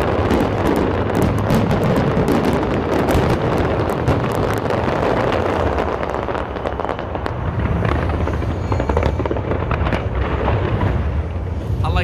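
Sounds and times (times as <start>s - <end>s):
booming firework shells: 0.0s - 11.7s
fireworks crackling and popping: 0.0s - 12.0s.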